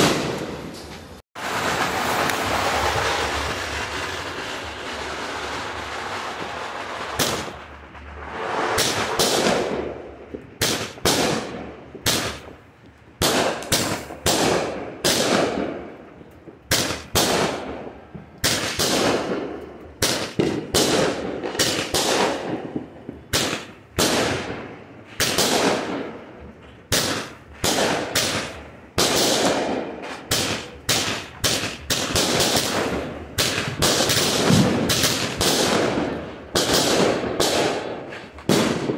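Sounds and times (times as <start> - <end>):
firework burst bangs: 0.0 - 0.8, 1.4 - 12.6, 13.2 - 15.9, 16.6 - 38.9.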